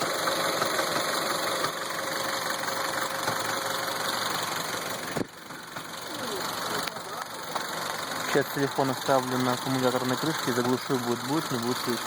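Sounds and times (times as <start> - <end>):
light engine knock: 0.0 - 8.0, 8.9 - 12.0
car engine idling: 0.0 - 12.0.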